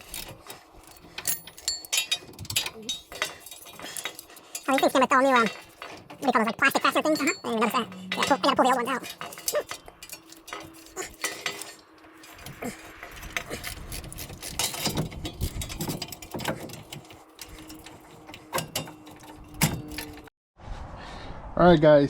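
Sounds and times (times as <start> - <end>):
metal tools clinking: 0.0 - 20.3
ratchet clicking: 0.0 - 20.3.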